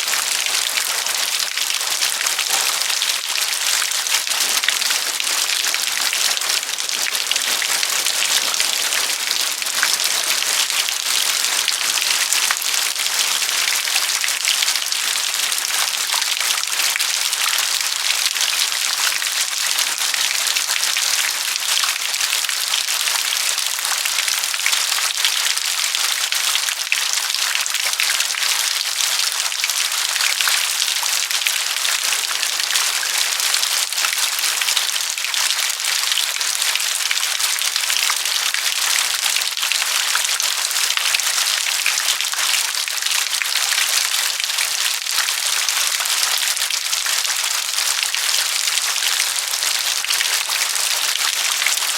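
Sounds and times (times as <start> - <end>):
steady rain patter: 0.0 - 51.9.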